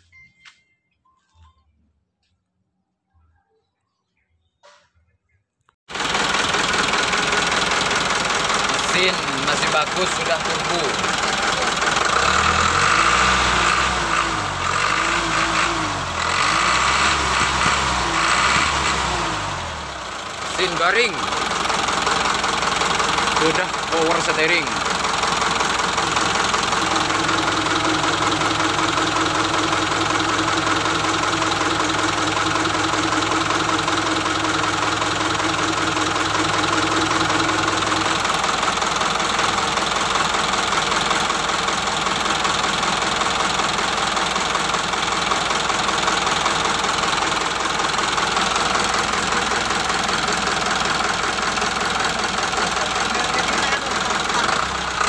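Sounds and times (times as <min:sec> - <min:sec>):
diesel engine idling: 0:05.9 - 0:55.0.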